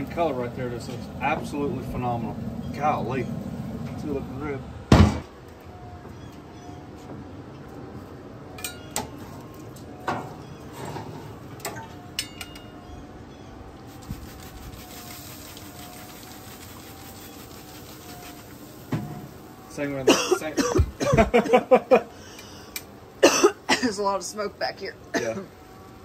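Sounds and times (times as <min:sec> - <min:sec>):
grill humming: 0:00.0 - 0:05.6, 0:07.2 - 0:26.0.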